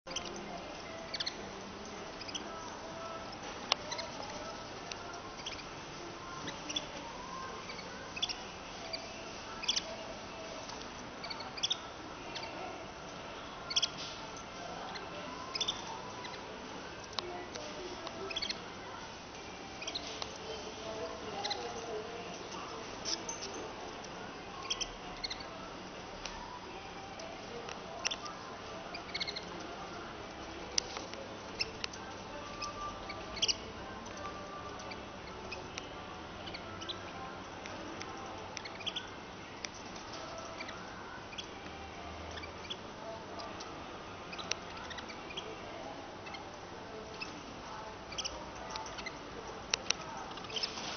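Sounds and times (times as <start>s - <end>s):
canaries chirping: 0.1s - 50.9s
low background hum: 0.1s - 50.9s
room noise: 0.1s - 50.9s.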